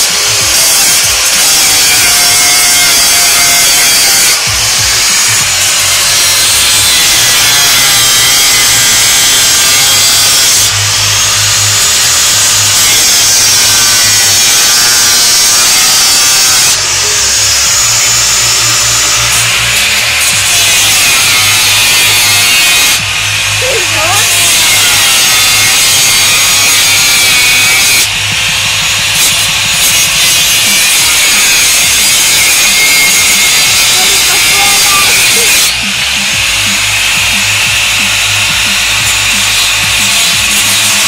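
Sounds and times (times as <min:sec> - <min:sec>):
angle grinder grinding metal: 0:00.0 - 0:41.0.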